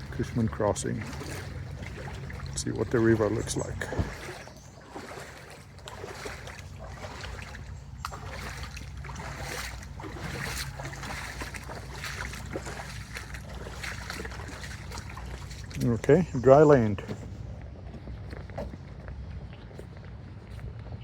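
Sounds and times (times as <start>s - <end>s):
water sloshing and splashing: 0.0s - 20.7s
steady low rumble: 0.0s - 21.0s.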